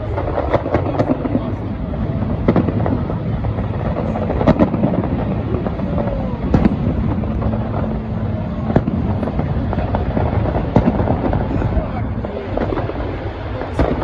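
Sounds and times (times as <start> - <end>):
fireworks bangs: 0.0 - 14.0
low background din: 0.0 - 14.0.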